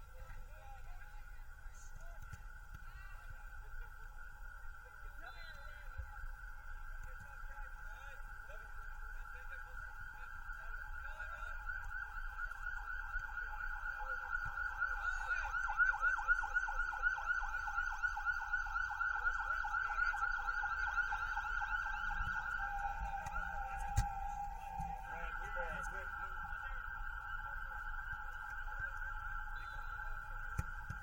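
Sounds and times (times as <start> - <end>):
emergency vehicle siren: 0.0 - 31.0.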